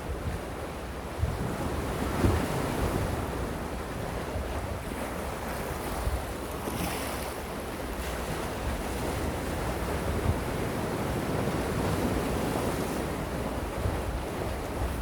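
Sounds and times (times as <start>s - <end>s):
sea waves washing on shore: 0.0s - 15.0s
wind rumble on microphone: 0.0s - 15.0s.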